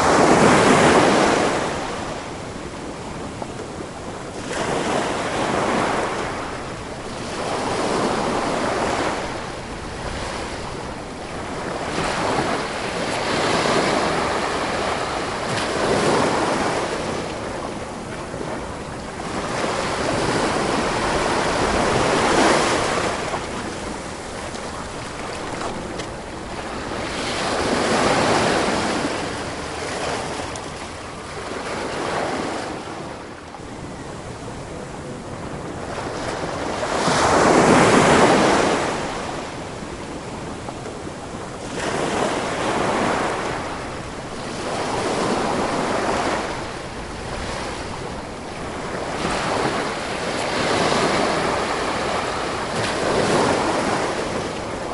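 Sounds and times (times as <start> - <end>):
sea waves washing onto beach: 0.0 - 54.9.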